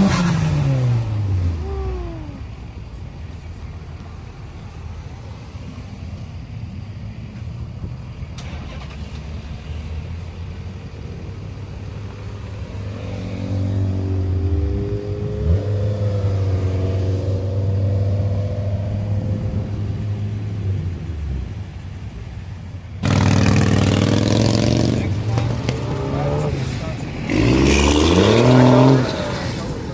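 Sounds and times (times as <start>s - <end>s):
car engines passing slowly: 0.0s - 29.9s.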